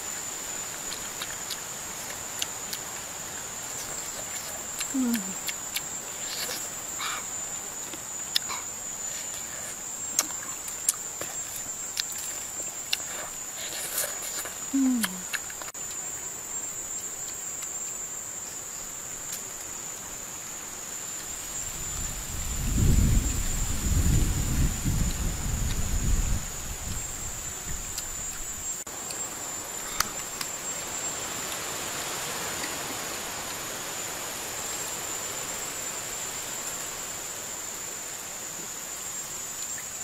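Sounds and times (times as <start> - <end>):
faint outdoor hiss: 0.0 - 40.0.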